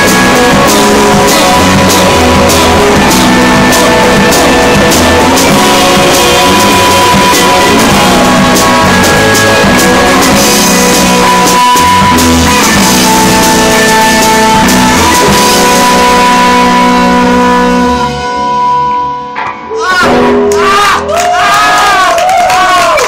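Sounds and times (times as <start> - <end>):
people shouting and cheering: 0.0 - 16.7, 19.4 - 23.0
live rock band playing: 0.0 - 22.1.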